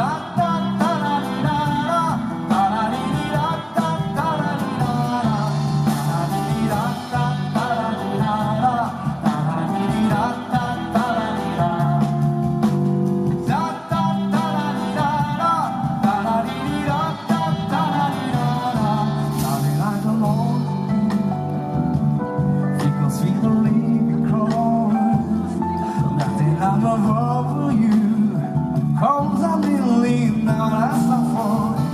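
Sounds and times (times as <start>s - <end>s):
sliding lead melody: 0.0s - 31.9s
steady bass line: 0.0s - 31.9s.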